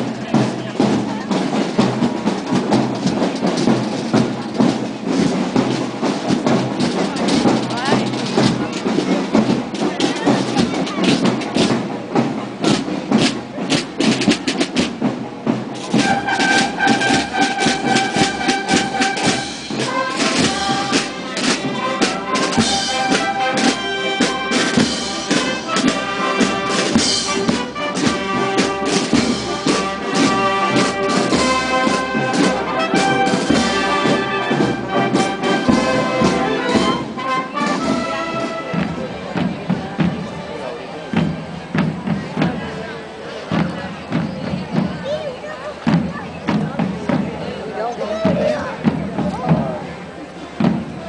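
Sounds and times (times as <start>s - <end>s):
brass band playing: 0.0s - 42.2s
drum strokes rattling: 0.0s - 51.0s.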